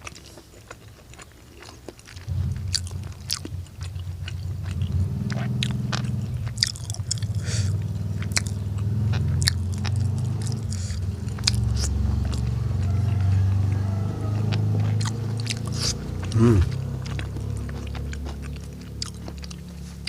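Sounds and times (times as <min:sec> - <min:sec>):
crunching clicks: 0:00.0 - 0:12.9, 0:14.4 - 0:20.0
chewing food: 0:00.0 - 0:20.0.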